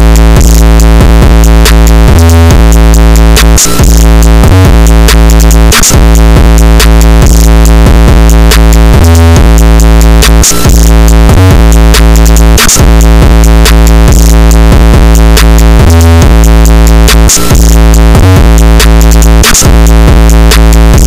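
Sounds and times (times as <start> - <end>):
bass: 0.0 - 21.0
drum machine beat: 0.0 - 21.0
synthesizer chords: 0.0 - 21.0.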